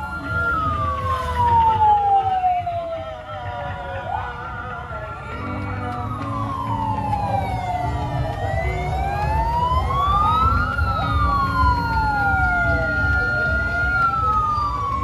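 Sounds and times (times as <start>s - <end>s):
sirens wailing: 0.0s - 15.0s.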